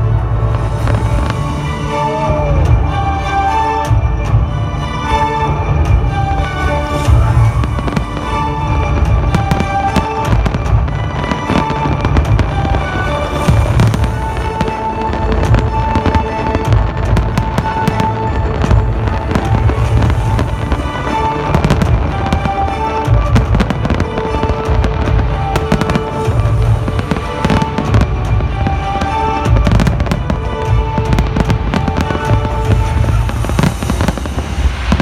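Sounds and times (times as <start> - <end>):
fireworks bangs and crackling: 0.0 - 35.0
music playing: 0.0 - 35.0.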